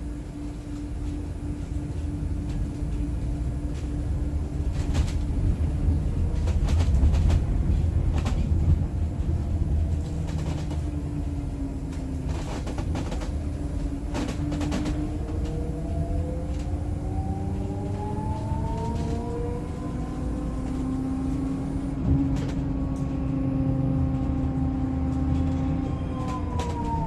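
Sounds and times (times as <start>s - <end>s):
road rumble: 0.0s - 27.0s
light rattles and clicks: 4.6s - 23.4s, 24.0s - 27.0s.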